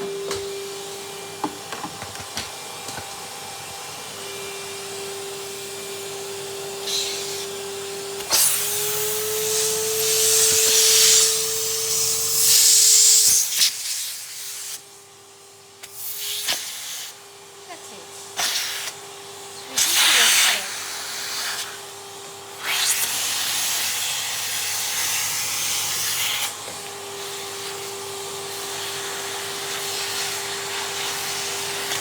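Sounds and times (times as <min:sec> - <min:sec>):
vacuum cleaner motor hum: 0:00.0 - 0:32.0.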